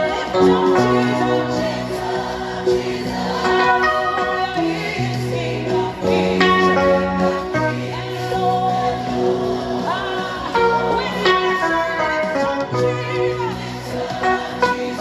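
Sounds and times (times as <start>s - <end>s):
bass line: 0.0s - 15.0s
choir singing: 0.0s - 15.0s
keyboard chords: 0.0s - 15.0s.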